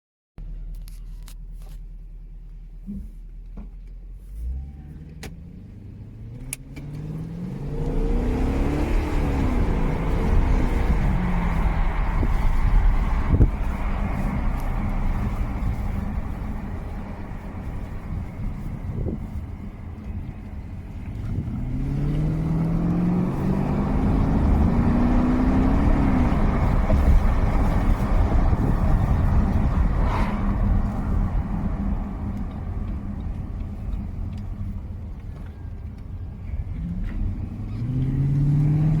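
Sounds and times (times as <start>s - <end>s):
car engine accelerating: 0.4s - 39.0s
road noise: 0.4s - 39.0s.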